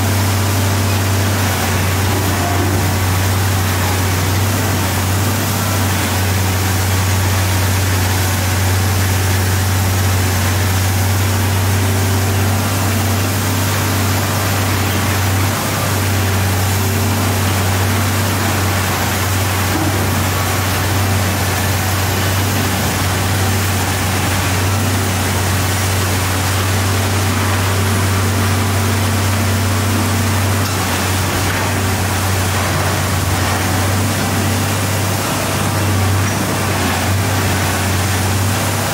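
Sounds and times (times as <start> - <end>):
excavator diesel engine drone: 0.0 - 38.9.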